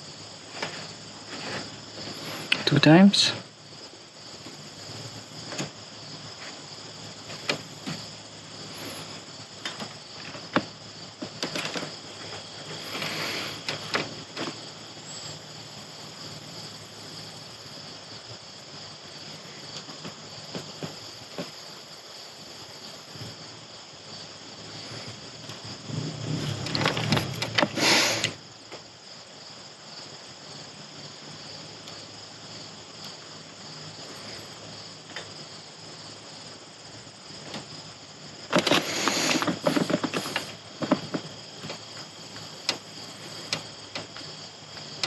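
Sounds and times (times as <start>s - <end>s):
noisy rustle: 0.0s - 29.4s, 30.4s - 45.0s.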